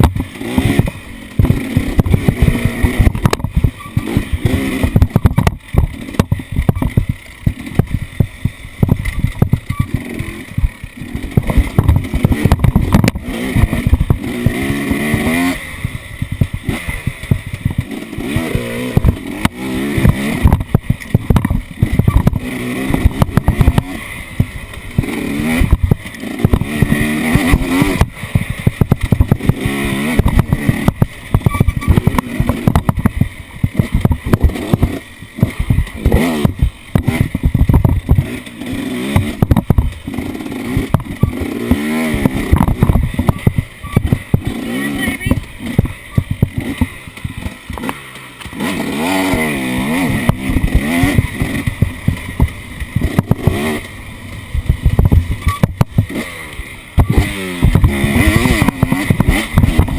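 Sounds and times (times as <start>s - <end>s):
sharp knocks and rattles: 0.0s - 44.7s, 45.3s - 59.9s
off-road vehicle engine revving: 0.0s - 59.9s.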